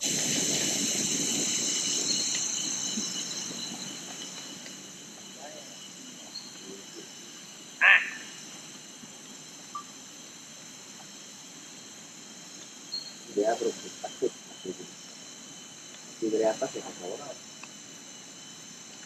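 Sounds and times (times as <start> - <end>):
chorus of rainforest insects: 0.0 - 19.0.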